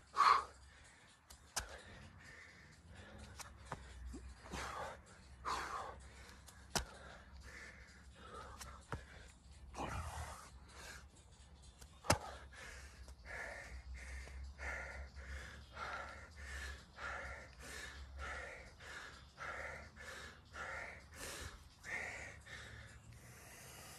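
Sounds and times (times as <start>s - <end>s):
man panting hard: 0.0s - 23.9s.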